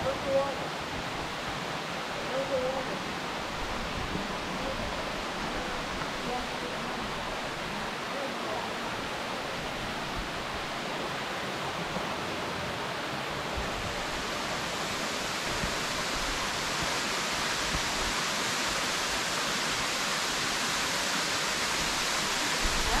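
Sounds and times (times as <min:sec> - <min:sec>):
rush of falling water: 0:00.0 - 0:23.0.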